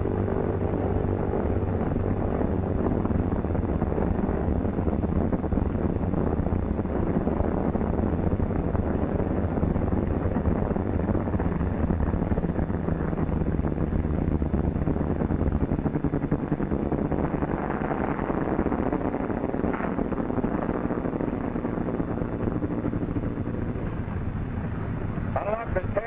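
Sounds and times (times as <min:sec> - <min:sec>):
aircraft engines droning: 0:00.0 - 0:26.0
rushing air noise: 0:00.0 - 0:26.0.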